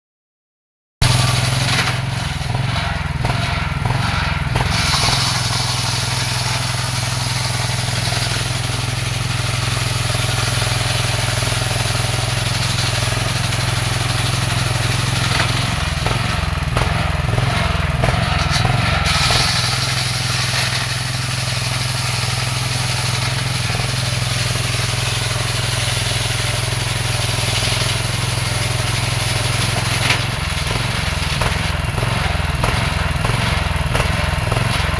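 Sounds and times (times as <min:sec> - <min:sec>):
table saw cutting wood: 0:01.0 - 0:34.9.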